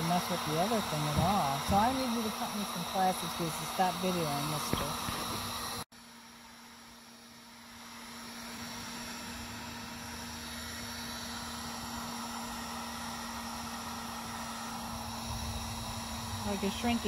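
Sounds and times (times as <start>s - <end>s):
heat gun running: 0.0s - 17.0s.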